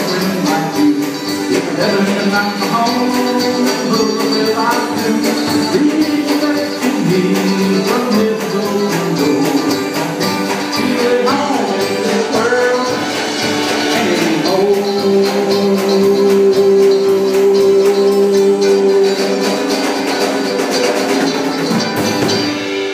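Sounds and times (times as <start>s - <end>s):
man singing: 0.0s - 20.9s
band playing guitar mandolin and drums: 0.0s - 22.9s.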